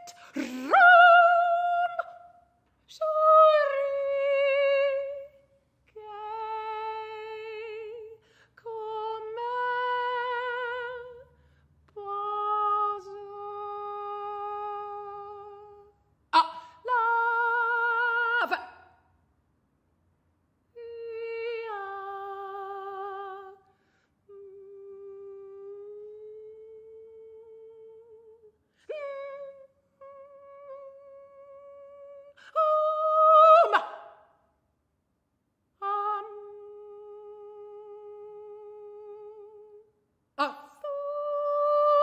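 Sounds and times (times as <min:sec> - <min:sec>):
woman singing with vibrato: 0:00.0 - 0:11.3, 0:11.9 - 0:19.1, 0:20.7 - 0:23.7, 0:24.3 - 0:34.4, 0:35.8 - 0:42.0.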